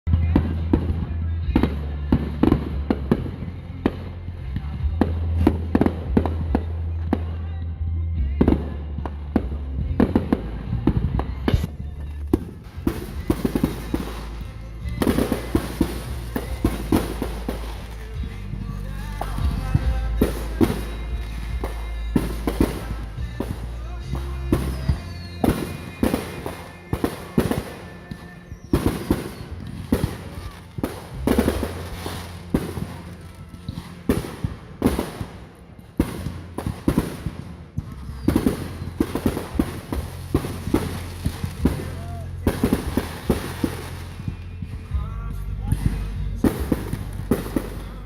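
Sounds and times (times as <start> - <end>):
deep rumble: 0.1 - 27.5, 28.1 - 48.0
fireworks bangs and crackling: 0.1 - 48.0.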